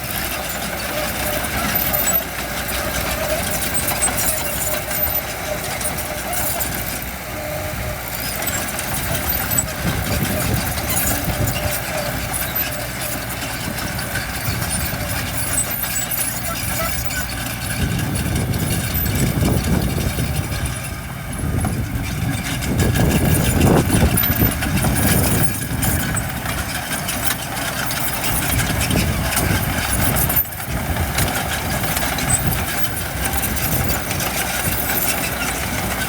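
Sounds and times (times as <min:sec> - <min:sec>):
heavy machinery diesel engines rumbling: 0:00.0 - 0:36.0.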